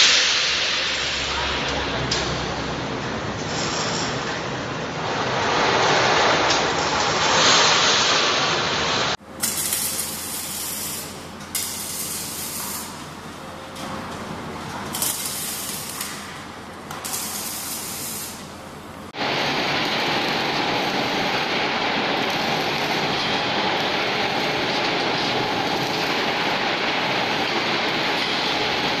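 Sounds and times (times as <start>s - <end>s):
arc welding hiss: 0.0s - 2.5s, 5.0s - 14.1s, 14.9s - 29.0s.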